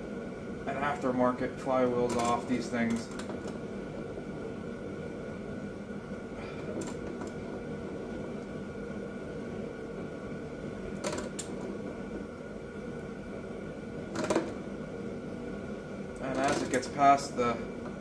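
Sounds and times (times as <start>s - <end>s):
workshop hum: 0.0s - 18.0s.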